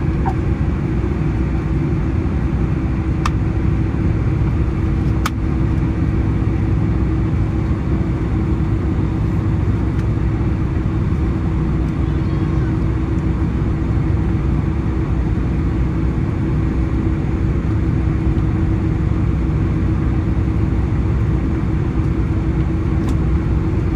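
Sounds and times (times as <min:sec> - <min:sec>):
constant hum: 0:00.0 - 0:23.9
jet engines idling rumble: 0:00.0 - 0:23.9.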